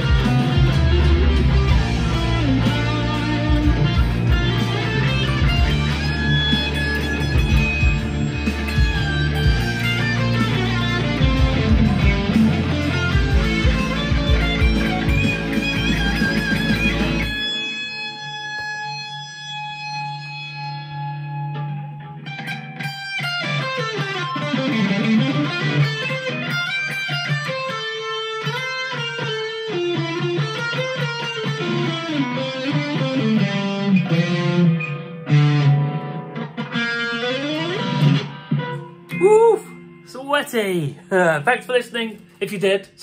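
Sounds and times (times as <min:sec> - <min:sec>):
distorted electric guitar: 0:00.0 - 0:43.0.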